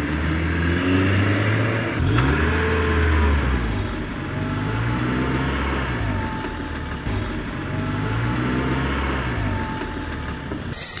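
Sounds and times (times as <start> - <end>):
recorded car engine revving: 0.0 - 11.0.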